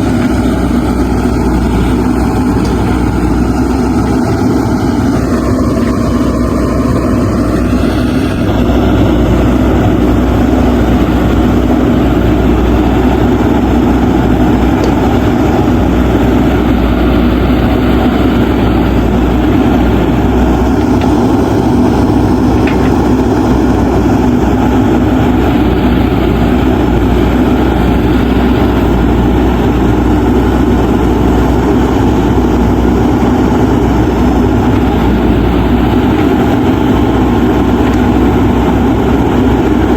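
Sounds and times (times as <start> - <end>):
diesel engine of digger running: 0.0 - 39.9.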